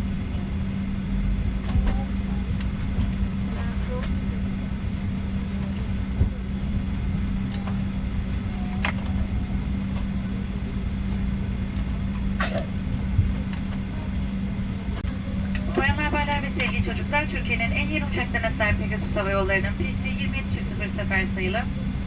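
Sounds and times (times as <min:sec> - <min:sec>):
aircraft cabin rumble and hum: 0:00.0 - 0:22.0.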